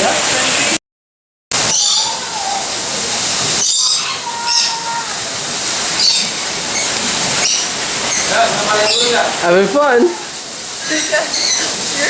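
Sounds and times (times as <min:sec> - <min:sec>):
birds chirping and squawking: 0:01.5 - 0:12.0.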